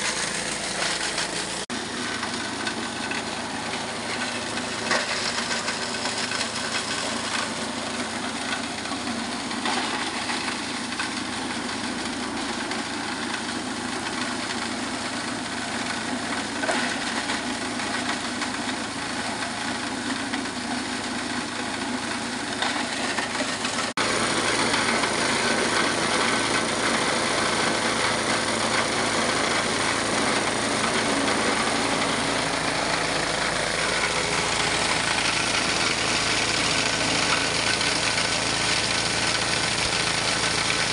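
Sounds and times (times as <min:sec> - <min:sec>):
plastic shredder running: 0:00.0 - 0:40.9.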